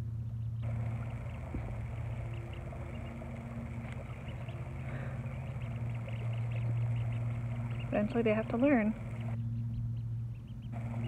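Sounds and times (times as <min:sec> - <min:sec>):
low machine hum: 0:00.0 - 0:11.0
ducklings peeping: 0:00.2 - 0:11.0.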